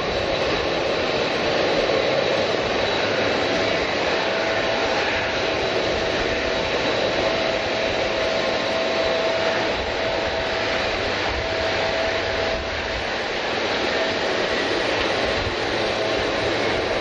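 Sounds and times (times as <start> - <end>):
jet engines running: 0.0 - 17.0
thin steady whine: 0.0 - 17.0.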